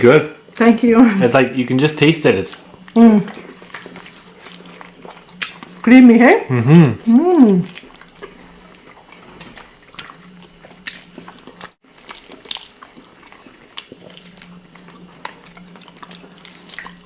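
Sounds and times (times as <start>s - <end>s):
faint steady hum: 0.0s - 17.0s
chewing: 2.4s - 5.9s, 6.6s - 17.0s.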